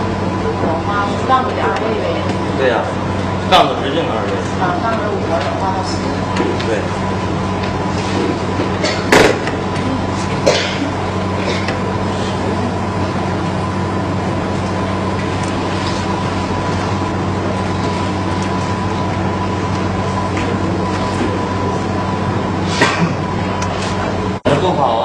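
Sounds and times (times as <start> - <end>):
low hum and hiss: 0.0 - 25.0.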